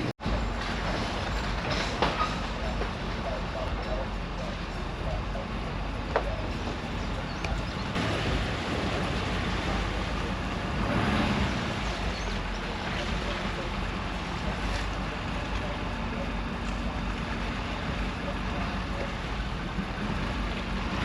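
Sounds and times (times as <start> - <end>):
road noise: 0.0 - 21.0
truck engine hum: 0.0 - 21.0.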